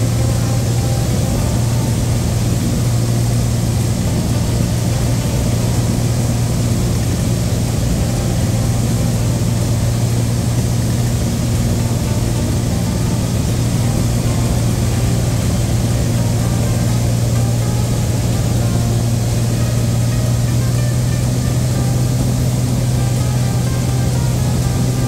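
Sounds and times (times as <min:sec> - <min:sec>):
propeller plane engine: 0:00.0 - 0:25.0.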